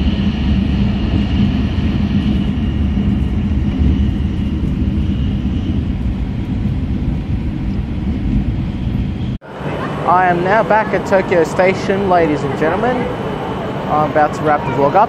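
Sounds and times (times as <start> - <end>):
train cabin low rumble: 0.0 - 15.0.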